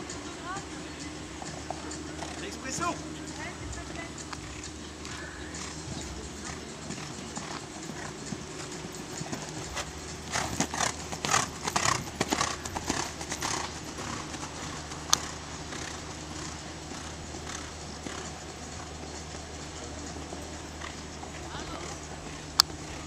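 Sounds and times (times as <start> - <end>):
horse hoofbeats on sand: 0.0 - 23.0.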